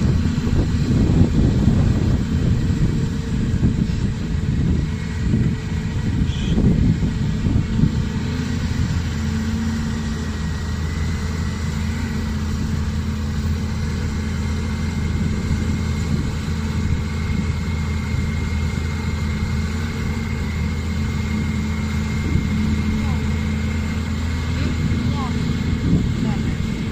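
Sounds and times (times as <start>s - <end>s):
excavator diesel engine running: 0.0s - 26.9s
thin steady whine: 0.0s - 26.9s.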